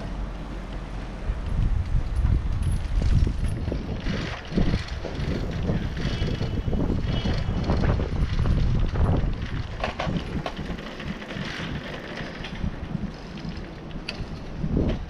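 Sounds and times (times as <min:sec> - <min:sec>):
bicycle rattling over pavers: 0:00.0 - 0:15.0
wind buffeting microphone: 0:00.8 - 0:15.0.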